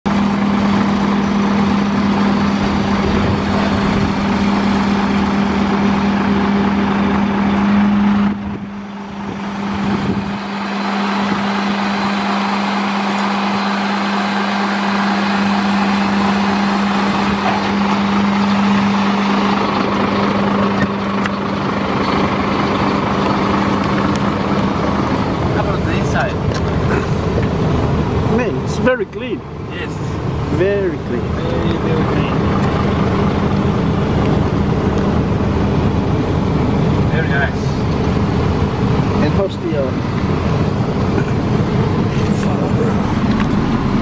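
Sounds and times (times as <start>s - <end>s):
diesel dump truck droning: 0.0s - 44.0s.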